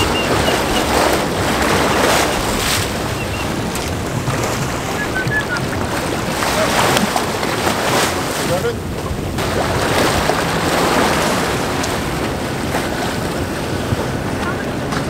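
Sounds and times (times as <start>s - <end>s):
water rushing around boat hull: 0.0s - 15.0s
wind buffeting microphone: 0.0s - 15.0s.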